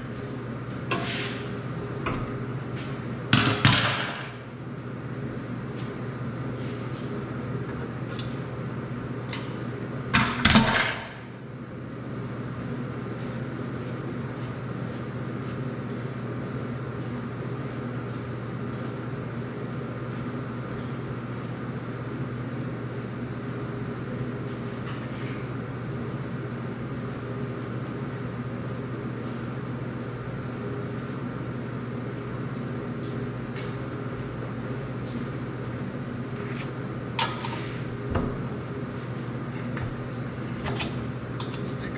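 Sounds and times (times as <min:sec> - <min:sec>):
low electrical hum: 0:00.0 - 0:41.9.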